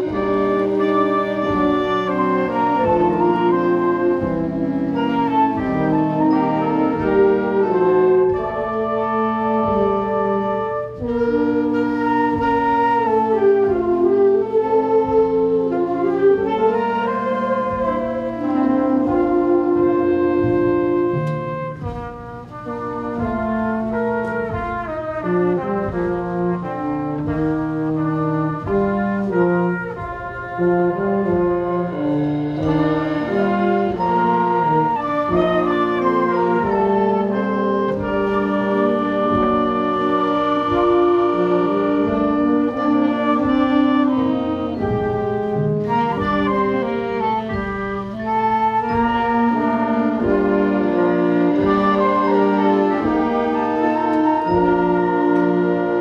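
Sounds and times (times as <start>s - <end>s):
school band playing: 0.0s - 56.0s.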